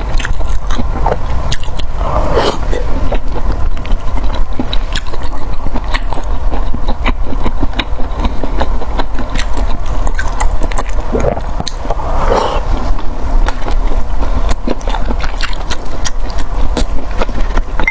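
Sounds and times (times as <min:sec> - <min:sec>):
chewing and biting: 0:00.0 - 0:17.9
mouth clicks: 0:00.0 - 0:17.9
steady low rumble: 0:00.0 - 0:17.9.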